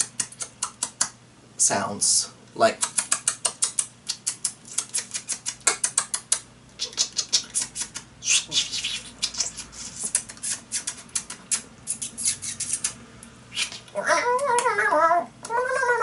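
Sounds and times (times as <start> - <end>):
man imitating squirrel chatter: 0.0 - 1.2, 2.6 - 14.9.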